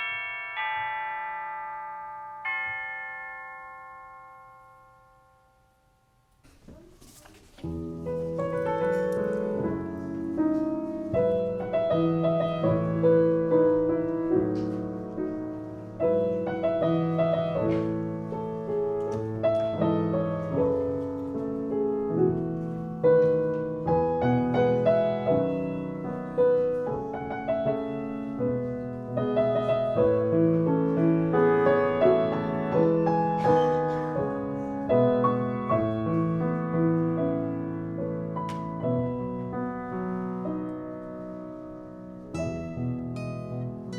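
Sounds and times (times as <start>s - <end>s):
slow piano piece: 0.0s - 43.9s.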